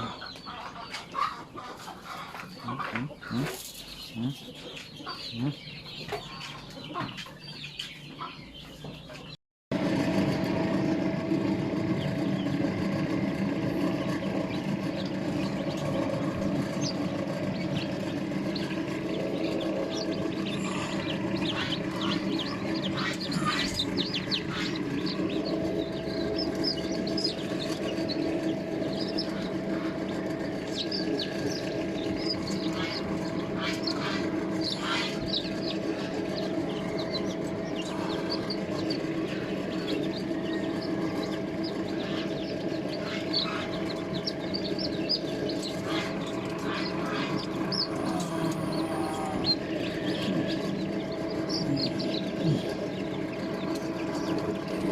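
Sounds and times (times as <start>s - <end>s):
steady mechanical hum: 0.0s - 54.9s
bird chirps: 2.4s - 9.4s, 14.4s - 54.9s.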